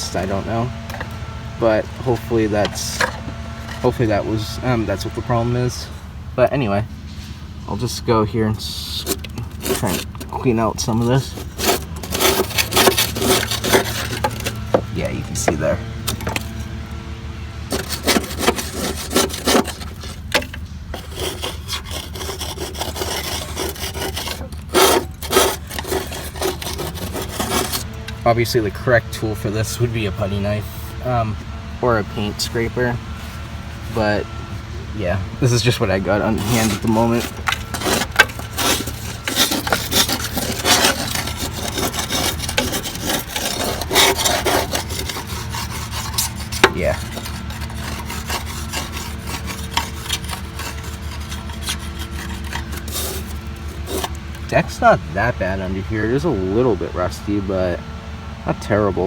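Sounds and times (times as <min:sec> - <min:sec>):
scraper scraping mower deck: 0:00.0 - 0:17.0, 0:17.6 - 0:57.7.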